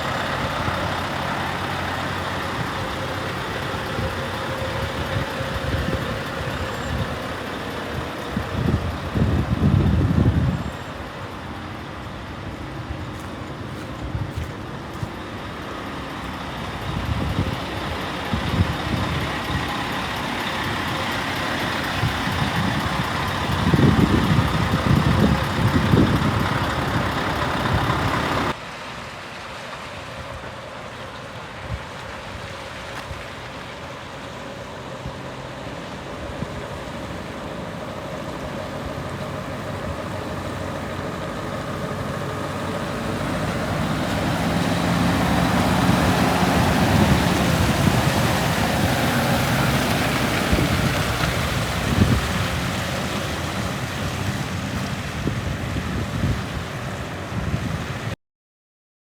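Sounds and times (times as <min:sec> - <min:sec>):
truck diesel engine running: 0:00.0 - 0:29.2, 0:29.9 - 0:58.1.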